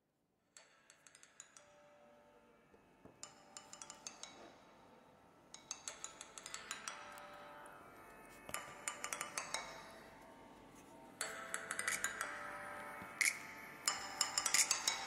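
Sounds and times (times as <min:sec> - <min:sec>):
faint music of struck notes: 0:00.6 - 0:15.0.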